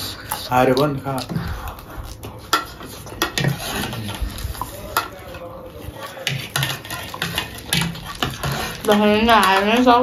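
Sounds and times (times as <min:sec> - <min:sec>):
metal spoons scraping paper plates: 0:00.2 - 0:10.0.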